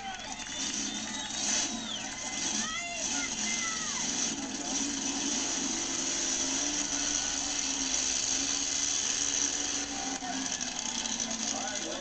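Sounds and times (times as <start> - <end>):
monster truck engine at high revs: 0.0 - 12.0.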